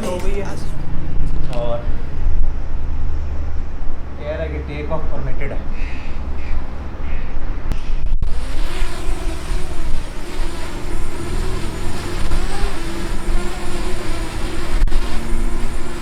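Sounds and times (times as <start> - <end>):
drone propellers humming: 0.0 - 16.0
wind buffeting microphone: 0.0 - 16.0.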